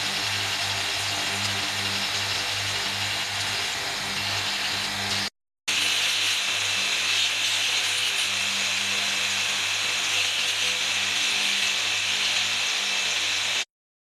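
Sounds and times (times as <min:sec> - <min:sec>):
bamboo being sanded: 0:00.0 - 0:13.7
drum sander humming: 0:00.0 - 0:13.7.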